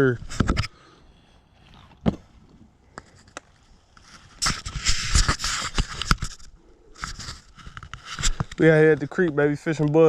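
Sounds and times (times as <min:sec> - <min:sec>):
scraping and rustling: 0:00.0 - 0:10.0.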